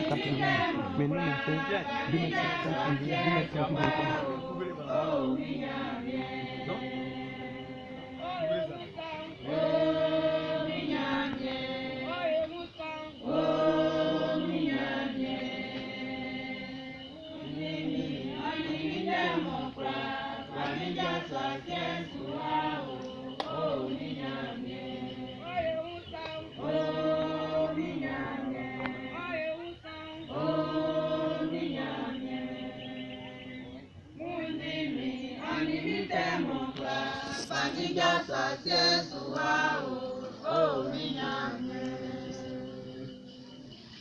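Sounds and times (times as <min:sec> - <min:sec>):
group of people singing: 0:00.0 - 0:44.0.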